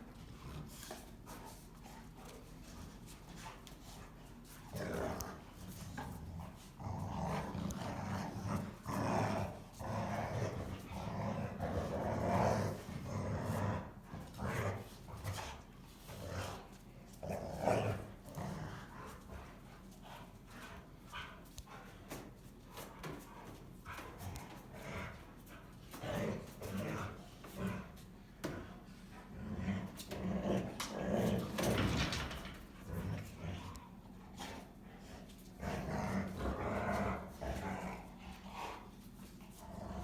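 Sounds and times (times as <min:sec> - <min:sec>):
dogs growling: 0:02.0 - 0:40.0.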